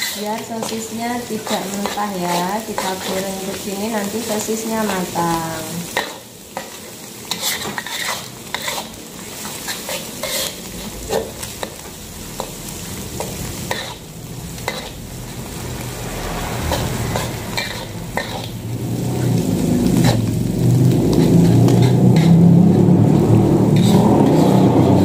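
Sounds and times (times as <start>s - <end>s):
metal spatula scraping a wok: 0.0s - 5.2s, 5.8s - 15.2s, 16.0s - 19.3s, 19.9s - 25.0s
food sizzling in oil: 0.0s - 25.0s.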